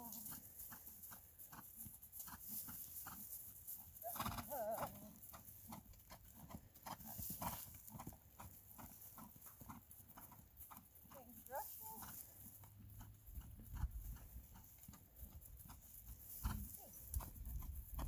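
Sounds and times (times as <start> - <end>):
horse hooves on grass: 0.0 - 18.0.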